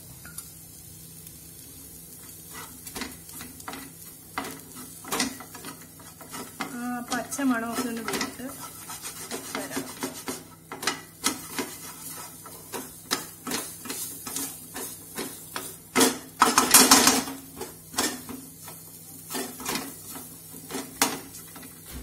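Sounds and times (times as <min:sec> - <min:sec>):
spatula scraping a frying pan: 0:02.1 - 0:22.0.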